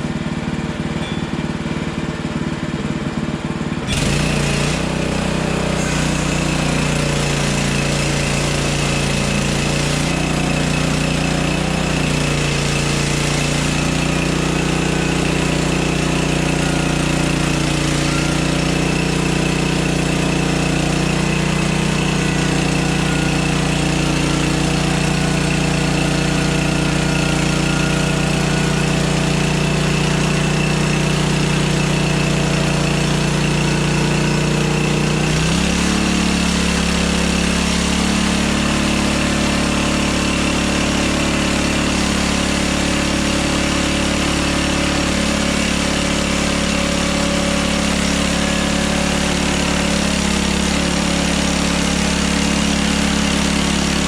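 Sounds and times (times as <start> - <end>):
sawmill gas engine running: 0.0 - 54.0.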